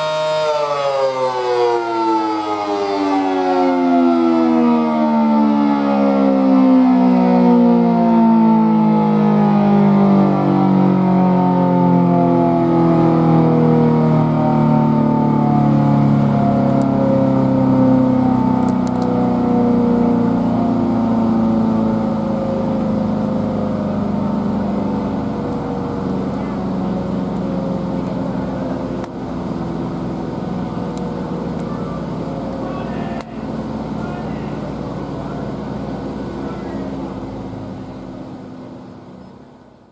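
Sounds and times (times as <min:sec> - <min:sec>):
siren winding down: 0:00.0 - 0:38.7.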